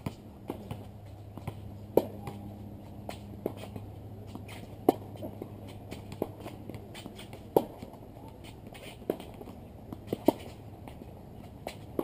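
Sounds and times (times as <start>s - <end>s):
low steady hum: 0.0s - 12.0s
racket hitting tennis ball: 0.0s - 12.0s
tennis ball bouncing: 0.0s - 12.0s.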